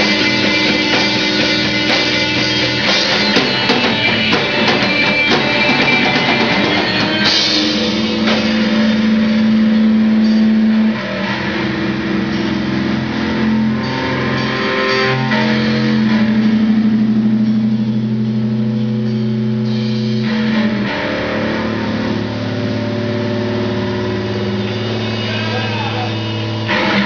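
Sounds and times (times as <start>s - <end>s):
distorted electric guitars and bass: 0.0s - 27.0s
guitar feedback: 0.0s - 27.0s.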